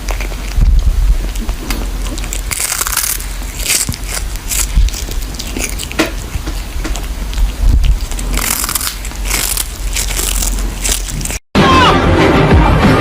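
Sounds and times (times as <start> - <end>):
animal chewing crunchily: 0.0 - 11.5.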